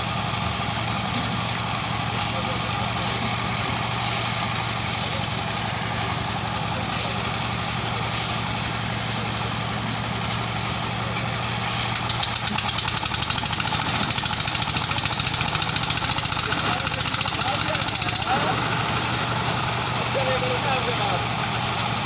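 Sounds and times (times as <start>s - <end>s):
machinery engine running: 0.0s - 22.0s.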